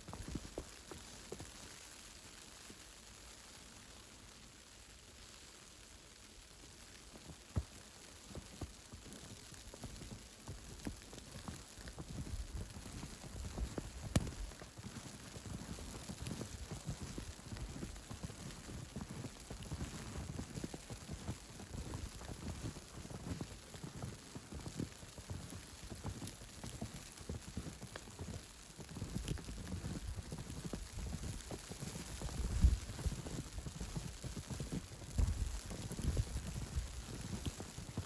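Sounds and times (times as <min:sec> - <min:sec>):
footsteps crunching in snow: 0:07.1 - 0:38.0.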